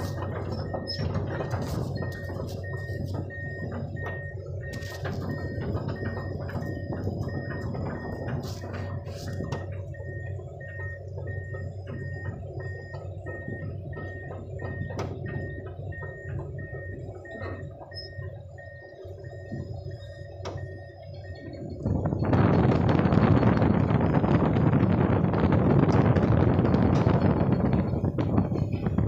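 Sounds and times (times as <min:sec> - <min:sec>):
truck engine humming: 0:00.0 - 0:29.0.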